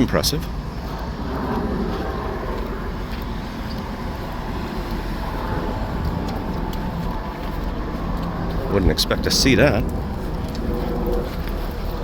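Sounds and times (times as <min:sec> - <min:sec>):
road traffic rumble: 0:00.0 - 0:12.0
wind buffeting microphone: 0:00.0 - 0:12.0.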